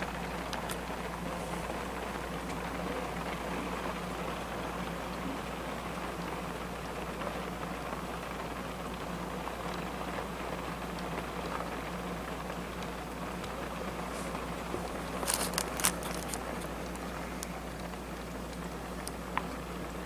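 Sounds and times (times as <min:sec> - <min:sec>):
low steady hum: 0:00.0 - 0:20.0
rain falling: 0:00.0 - 0:20.0.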